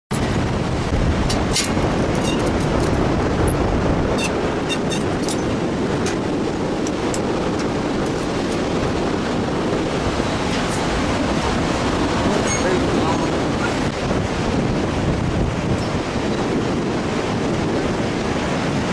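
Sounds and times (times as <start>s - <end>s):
fast river rushing: 0.1s - 18.9s.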